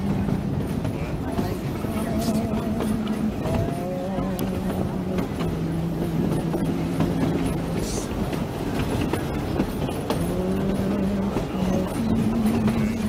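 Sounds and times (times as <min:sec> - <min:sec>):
train coach rumbling on track: 0:00.0 - 0:13.0.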